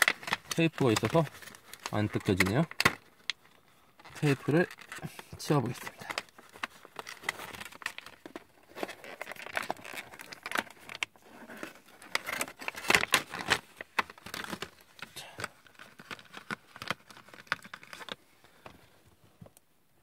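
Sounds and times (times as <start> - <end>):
plastic packaging crinkling: 0.0 - 18.6.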